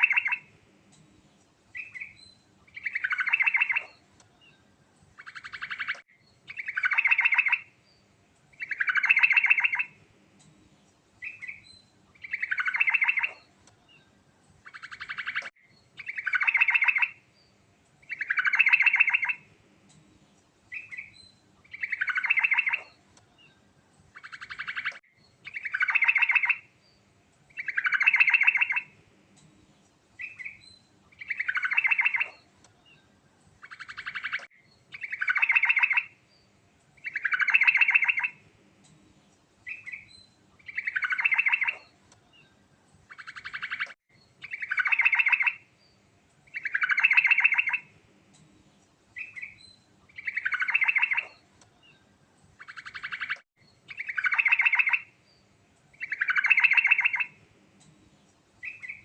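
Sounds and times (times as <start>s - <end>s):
bird singing trilled phrases: 0.0s - 0.5s, 1.7s - 10.0s, 11.2s - 19.5s, 20.7s - 29.0s, 30.2s - 38.4s, 39.6s - 48.5s, 49.2s - 57.4s, 58.6s - 59.0s.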